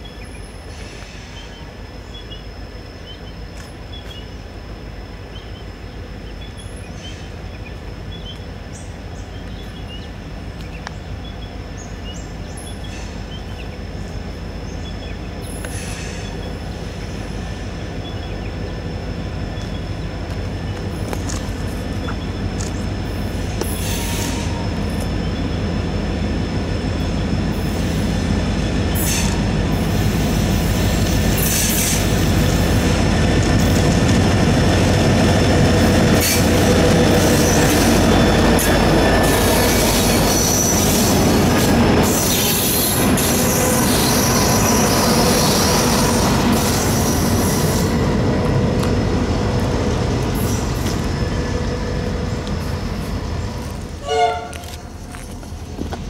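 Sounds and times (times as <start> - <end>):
diesel locomotive engines: 0.0 - 56.0
train wheels on rails: 0.0 - 56.0.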